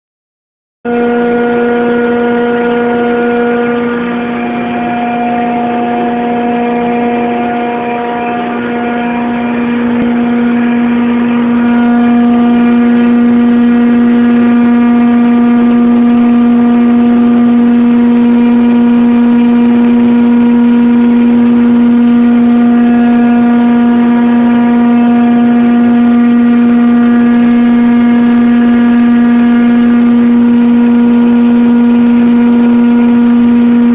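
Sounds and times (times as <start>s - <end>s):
compressor whining: 0.9s - 33.9s.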